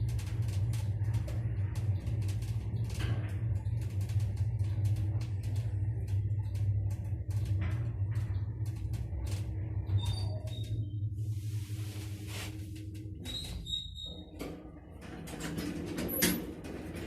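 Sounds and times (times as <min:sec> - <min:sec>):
elevator humming: 0:02.6 - 0:17.0.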